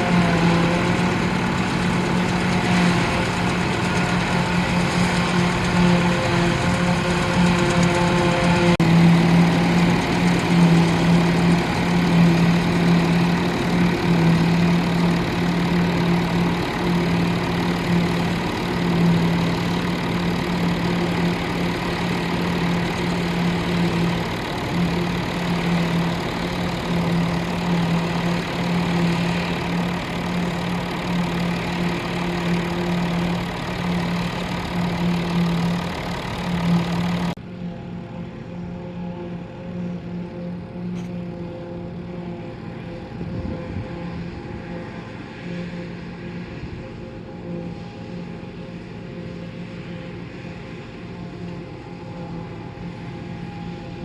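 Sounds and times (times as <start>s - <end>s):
tractor engine droning: 0.0s - 54.0s.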